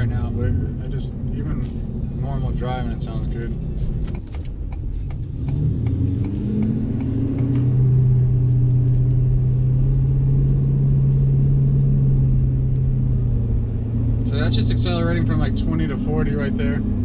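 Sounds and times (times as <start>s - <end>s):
diesel truck engine rumble: 0.0s - 17.0s.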